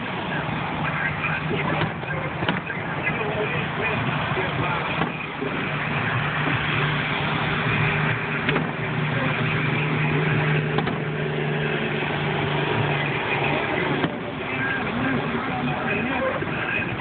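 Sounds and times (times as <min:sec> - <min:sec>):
broad noise: 0:00.0 - 0:17.0
vehicle engine humming: 0:00.0 - 0:17.0.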